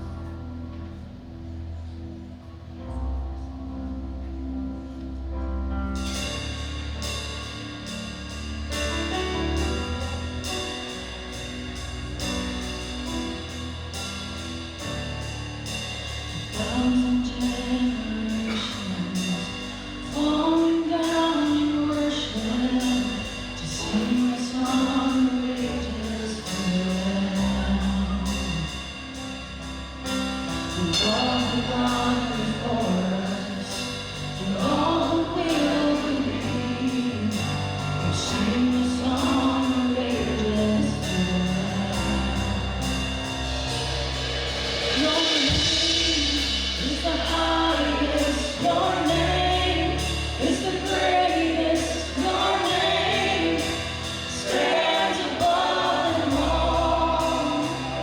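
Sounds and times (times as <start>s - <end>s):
worship band music: 0.0s - 58.0s.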